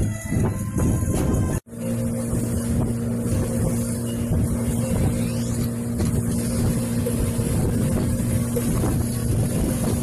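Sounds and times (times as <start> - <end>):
boat motor droning: 0.0 - 10.0.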